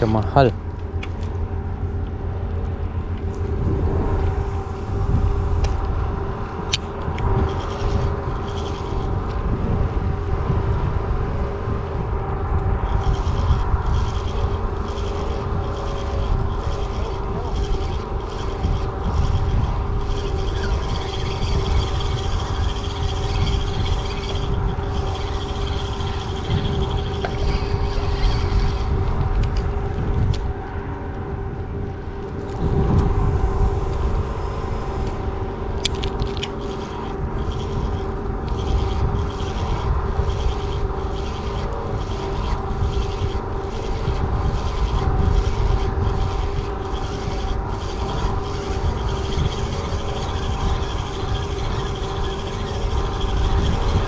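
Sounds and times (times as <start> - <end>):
motor humming steadily: 0.0 - 54.0
wind rumble on microphone: 0.0 - 54.0.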